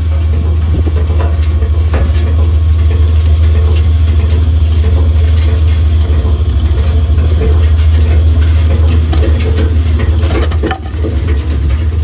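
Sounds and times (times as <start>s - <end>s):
wood chipper humming: 0.0s - 12.0s.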